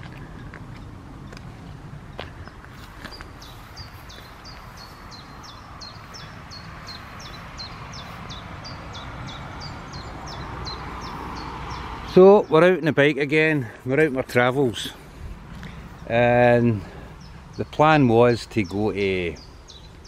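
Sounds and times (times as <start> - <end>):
songbird singing: 0.0 - 20.0
steady outdoor hiss: 0.0 - 20.0.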